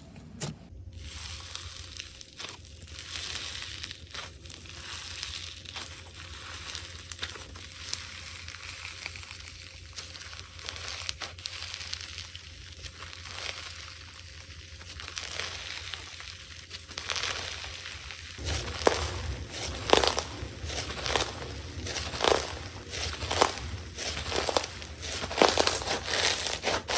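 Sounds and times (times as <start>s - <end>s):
slime squishing wet crackle: 1.0s - 26.9s.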